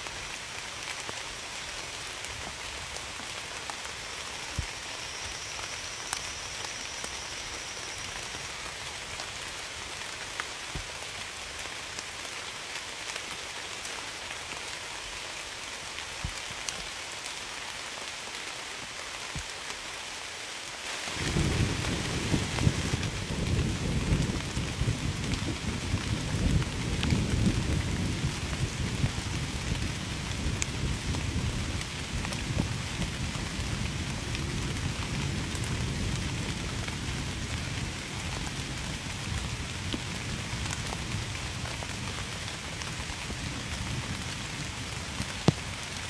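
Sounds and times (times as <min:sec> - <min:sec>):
steady rain hiss: 0:00.0 - 0:46.0.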